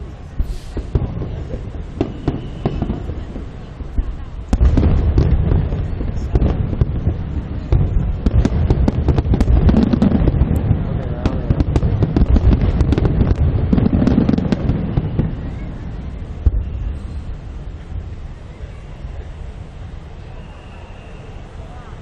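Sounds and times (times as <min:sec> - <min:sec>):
fireworks bursts and cracks: 0:00.0 - 0:18.0
low rumble of fireworks booms: 0:00.0 - 0:22.0.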